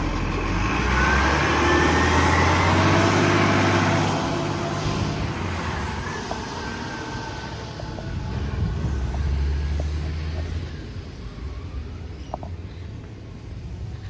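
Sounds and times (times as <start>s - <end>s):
garbage truck engine droning: 0.0s - 14.0s.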